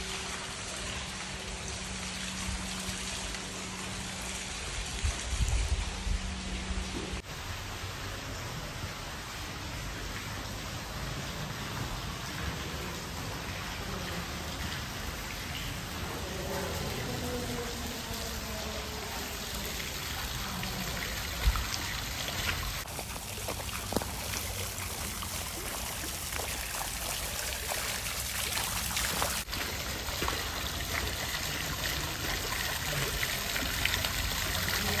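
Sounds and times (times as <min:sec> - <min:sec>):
fountain splashing and trickling: 0:00.0 - 0:35.0.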